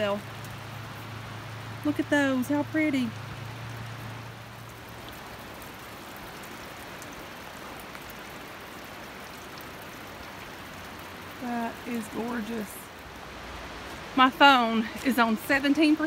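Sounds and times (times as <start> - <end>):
flowing water: 0.0 - 16.0.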